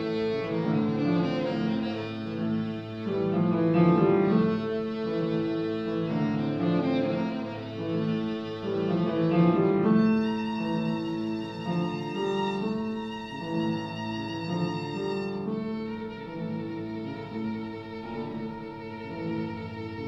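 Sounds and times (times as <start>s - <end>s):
piano accompaniment: 0.0s - 20.0s
violin melody: 0.0s - 20.0s.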